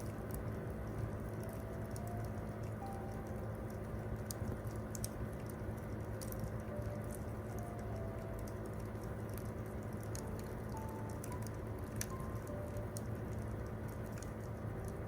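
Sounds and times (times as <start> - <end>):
soft piano notes: 0.0 - 15.0.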